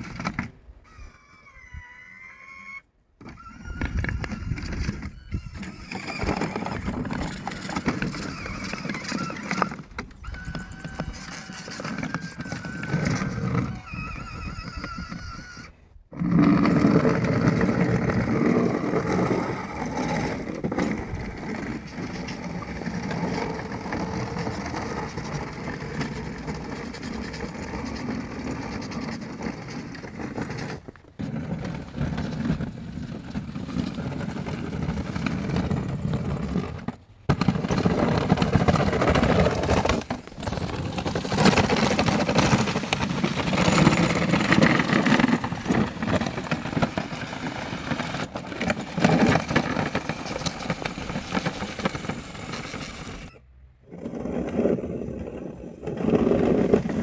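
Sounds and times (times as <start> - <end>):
remote-control snow plow motors: 3.2 - 57.0
blade scraping snow: 4.2 - 57.0.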